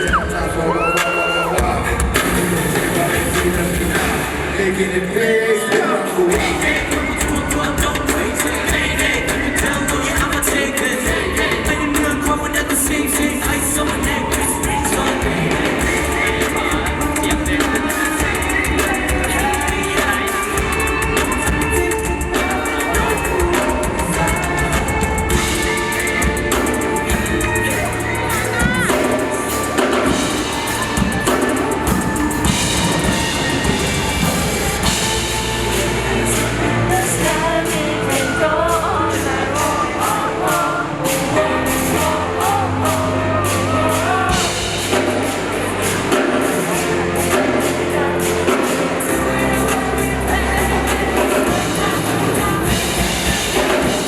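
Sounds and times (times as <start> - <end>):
loud band music: 0.0 - 54.0
pop song over sound system: 0.0 - 54.0.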